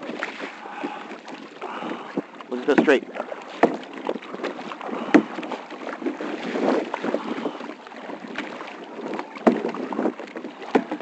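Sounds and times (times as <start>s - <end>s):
paddle splashing through water: 0.0s - 11.0s.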